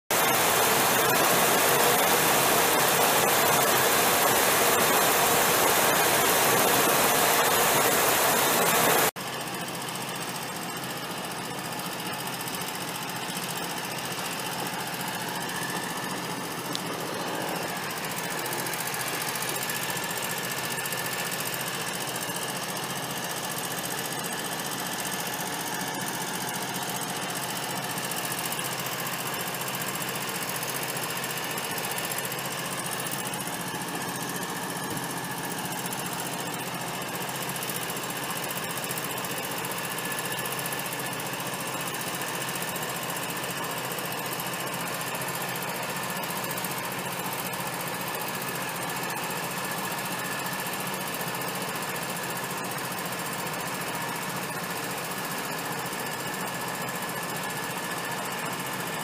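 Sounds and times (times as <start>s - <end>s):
engine running steadily: 0.1s - 59.0s.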